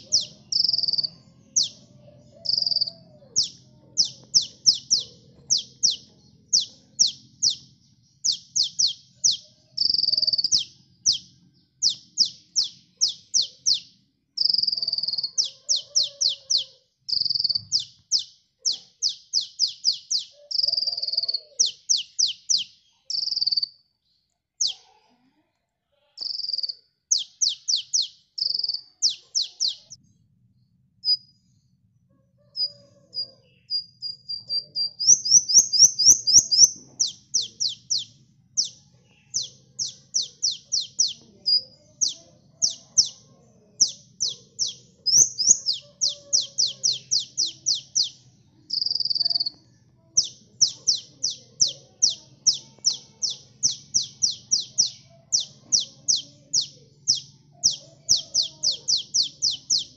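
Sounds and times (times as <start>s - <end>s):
sunbird singing high chirps: 0.0s - 23.8s, 26.2s - 30.0s, 32.5s - 49.6s, 50.2s - 59.9s.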